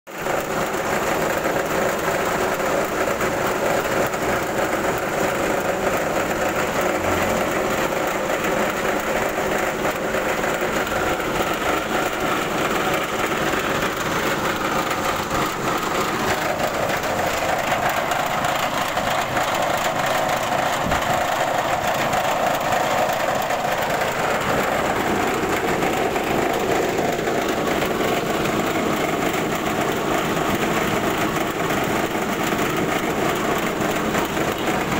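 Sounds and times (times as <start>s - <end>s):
rice milling machine running: 0.1s - 34.9s
small engine running: 0.1s - 34.9s.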